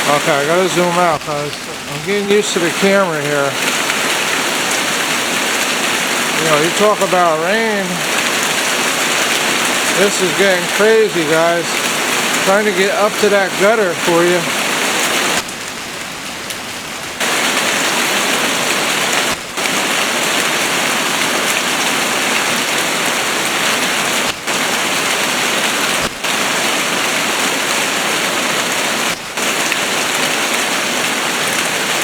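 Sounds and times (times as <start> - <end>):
heavy rain hitting ground: 0.0 - 32.0.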